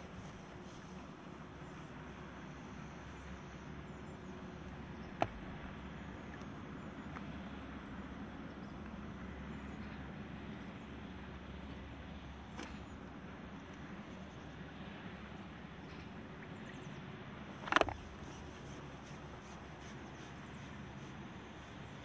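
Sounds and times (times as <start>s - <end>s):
low outdoor background rumble: 0.0s - 22.0s.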